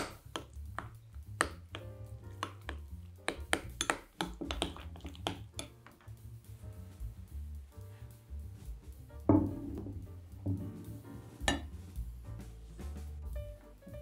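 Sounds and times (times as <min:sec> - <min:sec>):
background music with bass: 0:00.0 - 0:14.0.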